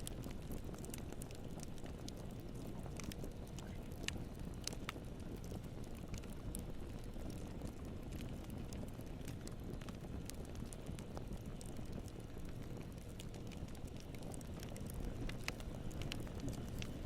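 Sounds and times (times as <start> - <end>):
campfire flame rushing: 0.0 - 17.0
fire crackling and popping: 0.0 - 17.0.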